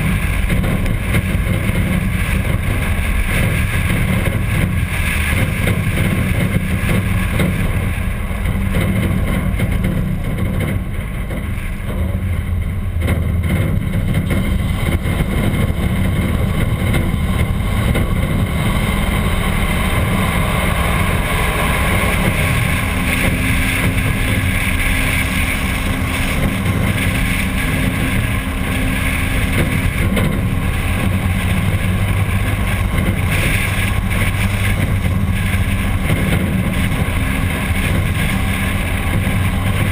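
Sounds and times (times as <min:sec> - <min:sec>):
car engine running: 0:00.0 - 0:39.9
wind noise on microphone: 0:00.0 - 0:39.9.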